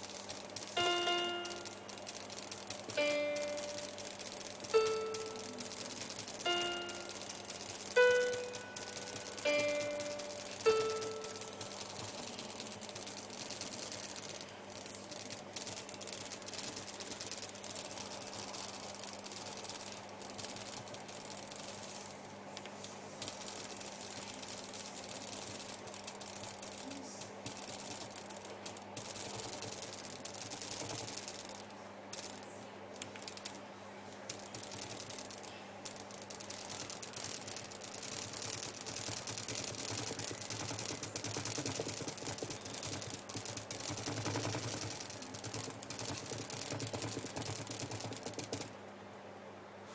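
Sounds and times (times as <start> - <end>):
crackling glitch noise: 0.0 - 33.6, 34.2 - 48.7.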